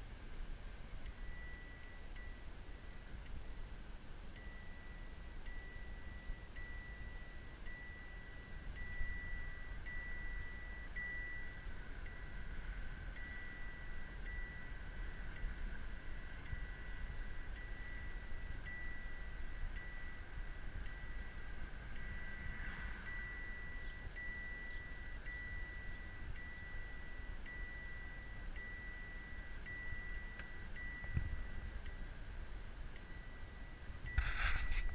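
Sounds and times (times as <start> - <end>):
car warning chime beeping: 0.0 - 34.9.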